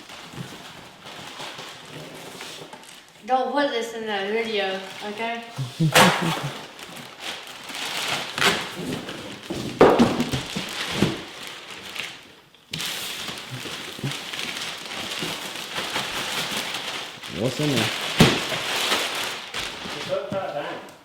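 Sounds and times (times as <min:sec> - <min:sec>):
cardboard packaging rustling: 0:00.0 - 0:03.2, 0:05.8 - 0:20.6.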